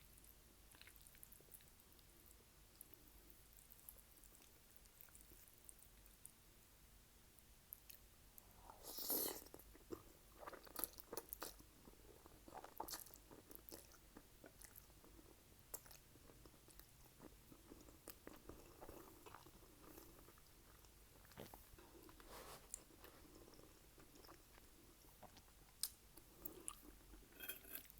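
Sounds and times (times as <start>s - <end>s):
chewing with wet mouth clicks: 0.2s - 6.4s, 9.0s - 15.0s, 15.7s - 22.3s, 23.3s - 27.9s.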